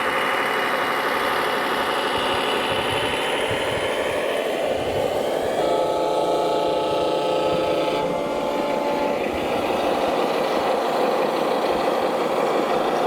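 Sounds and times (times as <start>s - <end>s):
electric motor and gear whine: 0.0s - 13.0s
rough mechanical noise: 0.0s - 13.0s.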